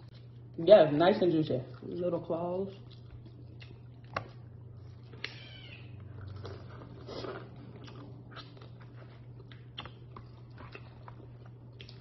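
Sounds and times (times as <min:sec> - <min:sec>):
chewing and mouth sounds: 0:00.0 - 0:12.0
steady low hum: 0:00.0 - 0:12.0.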